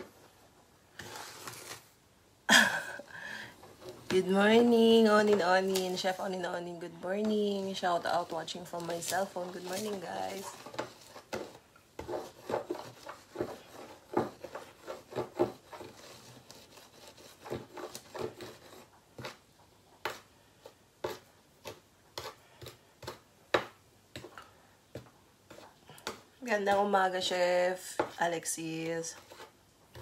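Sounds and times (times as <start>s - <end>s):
flour stirred with metal spoon: 3.5s - 30.0s.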